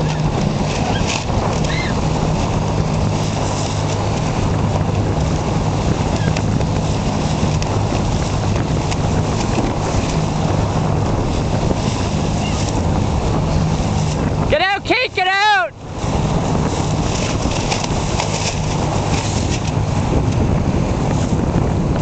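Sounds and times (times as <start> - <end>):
boat engine hum: 0.0 - 22.0
rushing water: 0.0 - 22.0
wind noise on microphone: 0.0 - 22.0.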